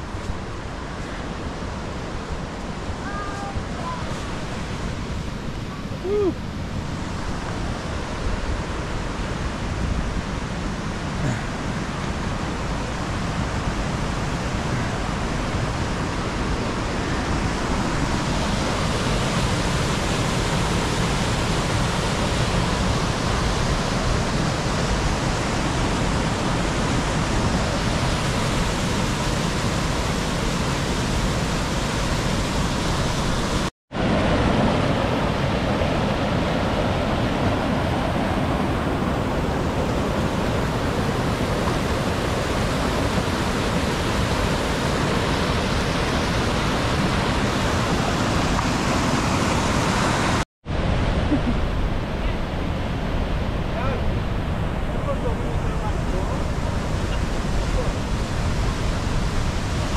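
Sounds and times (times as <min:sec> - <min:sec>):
waterfall rushing: 0:11.0 - 0:59.9.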